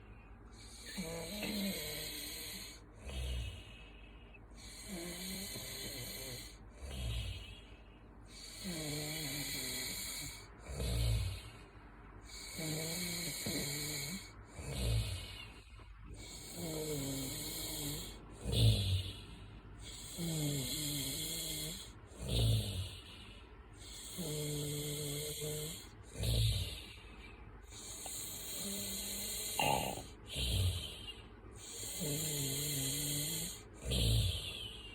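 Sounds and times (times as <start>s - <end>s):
person snoring: 0.6s - 3.9s, 4.6s - 7.7s, 8.3s - 11.6s, 12.3s - 27.1s, 27.7s - 34.9s.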